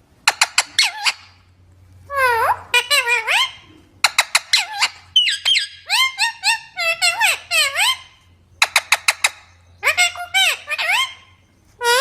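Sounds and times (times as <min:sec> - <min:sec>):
parrot screeching: 0:00.3 - 0:01.4, 0:02.1 - 0:12.0.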